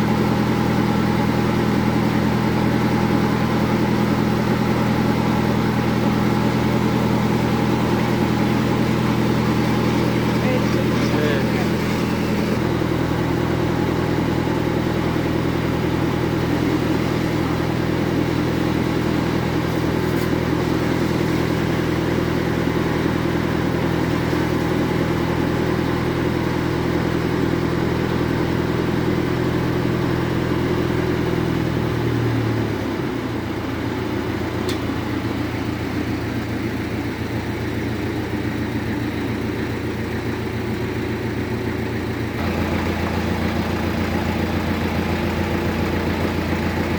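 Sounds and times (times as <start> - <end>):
bandsaw mill drive humming: 0.0 - 46.9.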